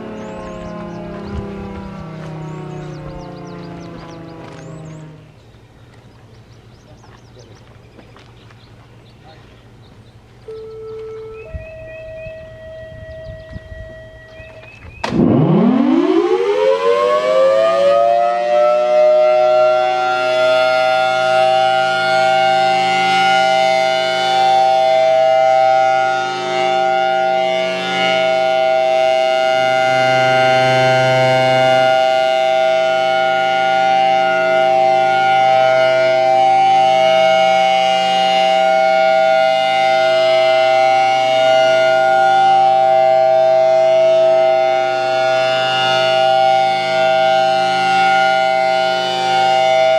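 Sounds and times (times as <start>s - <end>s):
warning siren two-note tone: 0.0s - 5.3s, 10.4s - 49.9s.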